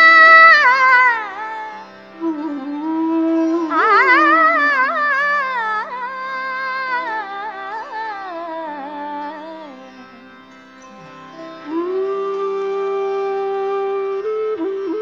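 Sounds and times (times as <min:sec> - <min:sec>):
ornamented gliding melody: 0:00.0 - 0:15.0
tanpura drone: 0:00.0 - 0:15.0.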